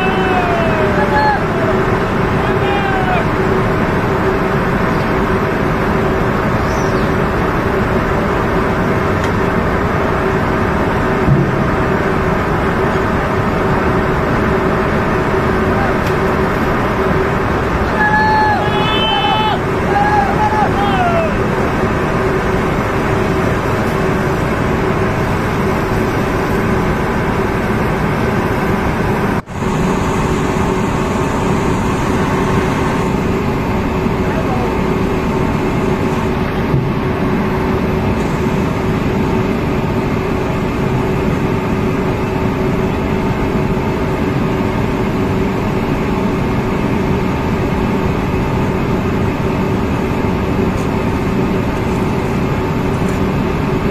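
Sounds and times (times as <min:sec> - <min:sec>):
machinery humming: 0:00.0 - 0:53.9.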